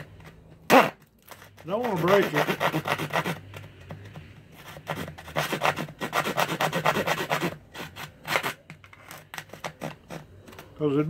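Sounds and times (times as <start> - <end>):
saw cutting dry gourd shell: 0.7 - 10.4.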